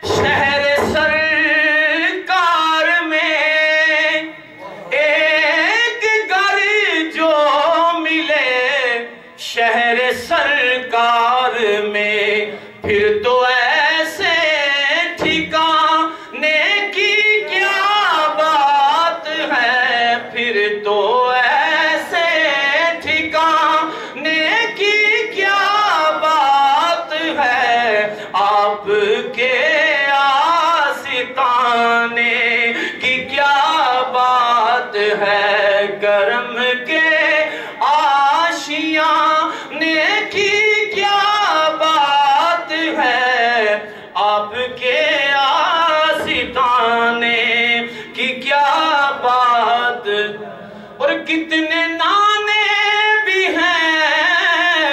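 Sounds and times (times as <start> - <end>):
man singing into a microphone: 0.0 - 54.9.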